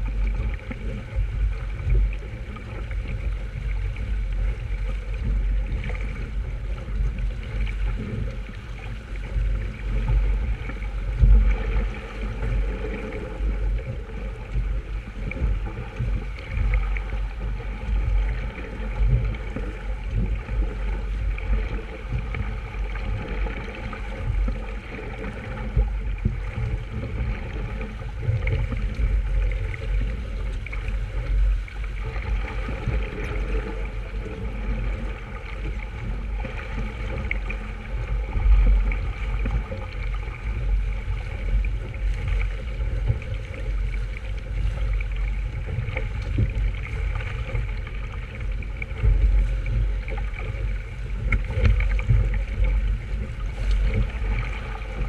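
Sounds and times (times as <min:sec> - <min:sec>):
water rushing along hull: 0:00.0 - 0:55.0.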